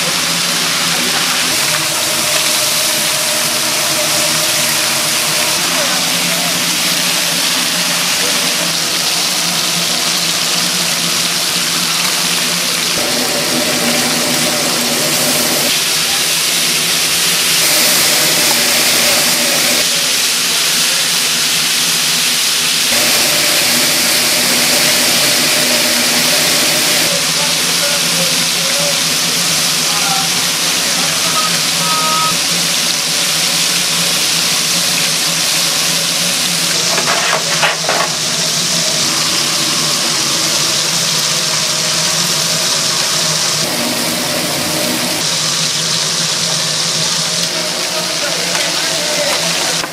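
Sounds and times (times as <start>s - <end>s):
machine hum: 0.0s - 20.0s, 22.8s - 49.9s
fish grilling hiss: 0.0s - 49.9s.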